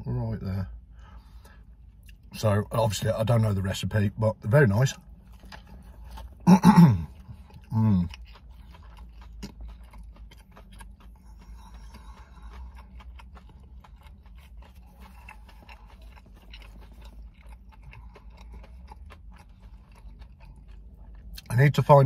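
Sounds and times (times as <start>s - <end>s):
person chewing crispy food: 1.0s - 22.0s.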